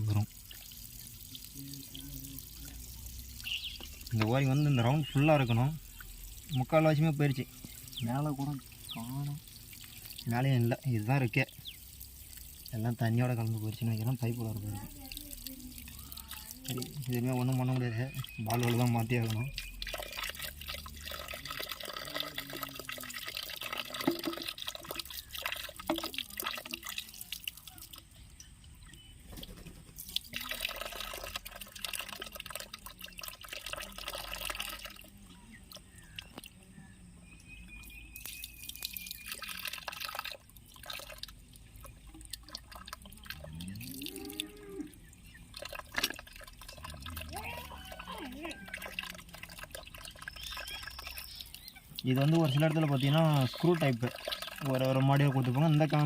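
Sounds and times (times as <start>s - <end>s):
water splashing and dripping: 0.0s - 36.7s, 37.4s - 56.0s.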